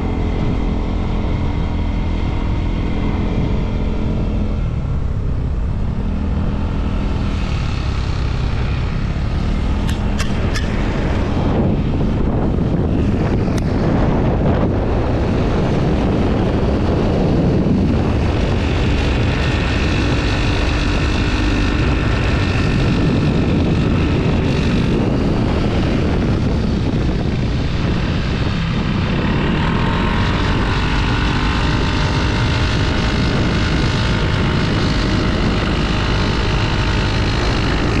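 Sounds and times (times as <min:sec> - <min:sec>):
motorcycle engine drone: 0:00.0 - 0:38.0
wind buffeting microphone: 0:00.0 - 0:38.0.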